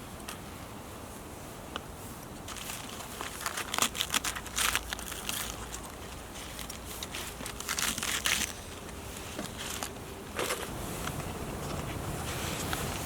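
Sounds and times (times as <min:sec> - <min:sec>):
rustling and crinkling: 0:00.2 - 0:13.0.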